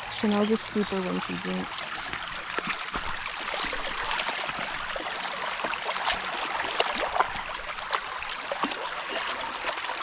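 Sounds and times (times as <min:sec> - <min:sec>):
creek water running: 0:00.0 - 0:10.0
dogs splashing in water: 0:00.2 - 0:10.0.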